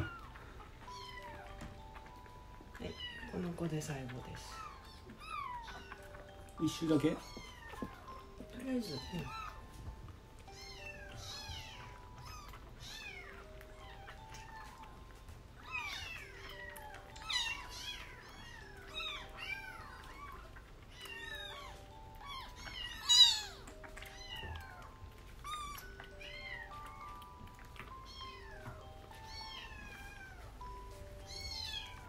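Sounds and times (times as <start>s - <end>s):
kittens mewing: 0.0s - 32.0s
soft background music: 0.0s - 32.0s.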